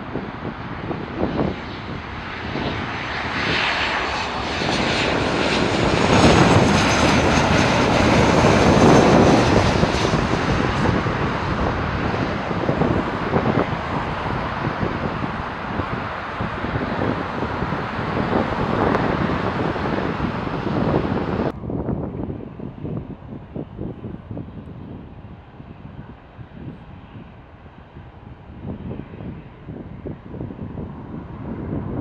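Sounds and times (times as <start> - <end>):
jet engines passing overhead: 0.0 - 32.0.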